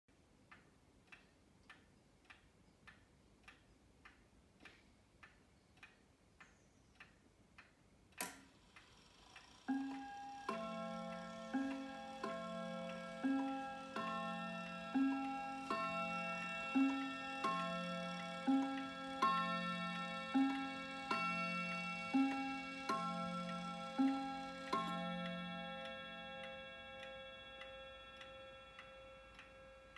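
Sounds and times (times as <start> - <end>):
wall clock ticking: 0.1 - 29.9.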